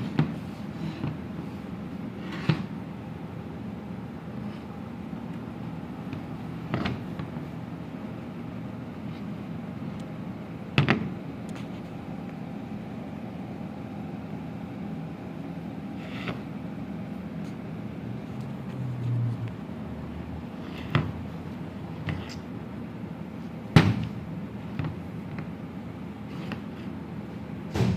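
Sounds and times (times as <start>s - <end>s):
low background hum: 0.0s - 27.9s.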